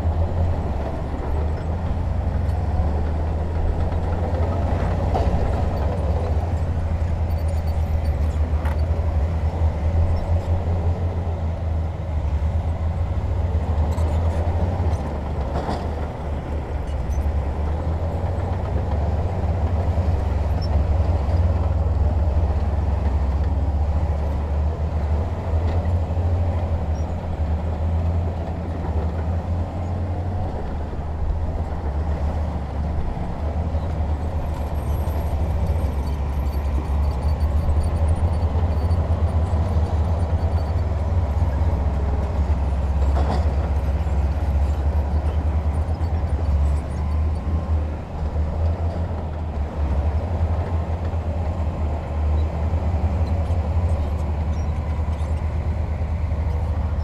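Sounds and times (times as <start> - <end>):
diesel machinery deep rumble: 0.0 - 57.0.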